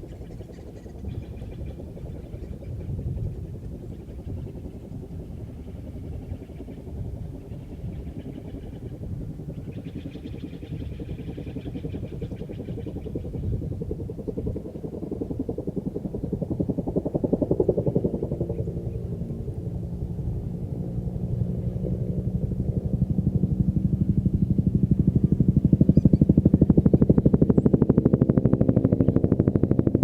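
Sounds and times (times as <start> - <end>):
helicopter rotor beating: 0.0 - 30.0.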